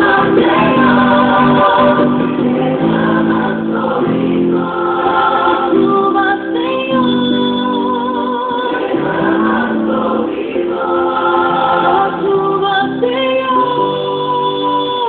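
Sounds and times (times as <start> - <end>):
choir singing in harmony: 0.0 - 14.5.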